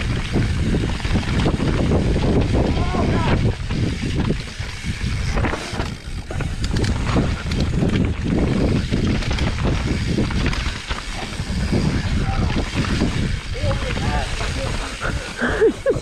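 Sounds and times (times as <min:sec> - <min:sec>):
tyres rumbling on dirt: 0:00.0 - 0:16.0
wind buffeting microphone: 0:00.0 - 0:16.0.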